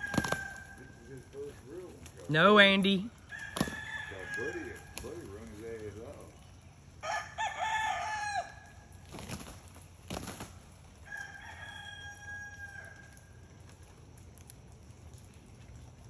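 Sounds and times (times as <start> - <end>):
roosters crowing: 0.0 - 13.5.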